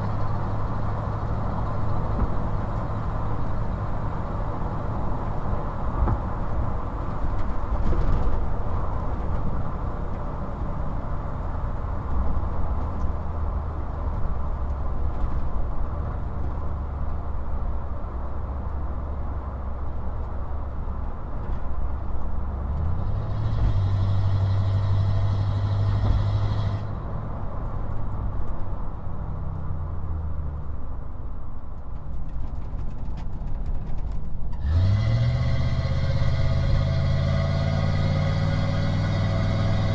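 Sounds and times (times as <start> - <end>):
car engine drone: 0.0 - 39.9
road rumble: 0.0 - 39.9.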